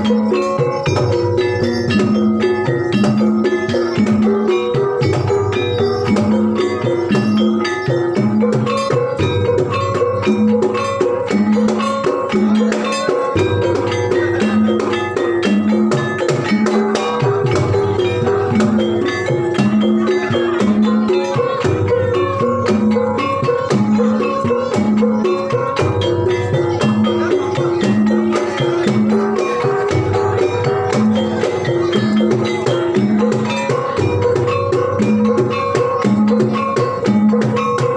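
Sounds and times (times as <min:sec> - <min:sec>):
gamelan percussion music: 0:00.0 - 0:37.9.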